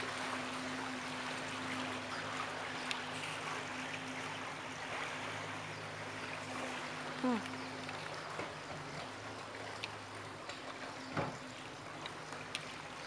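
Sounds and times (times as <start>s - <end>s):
speedboat engine humming: 0.0s - 13.0s
water rushing and splashing: 0.0s - 13.0s.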